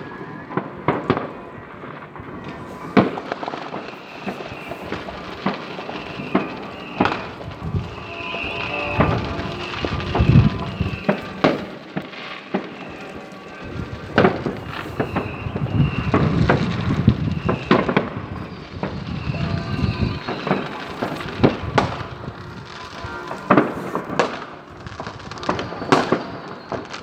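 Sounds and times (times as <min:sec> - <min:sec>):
crackling hiss: 0:00.0 - 0:27.0
fireworks sharp bangs: 0:00.0 - 0:27.0.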